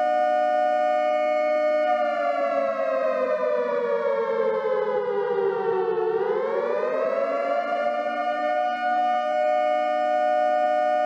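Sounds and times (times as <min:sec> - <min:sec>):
tornado warning siren: 0:00.0 - 0:11.0.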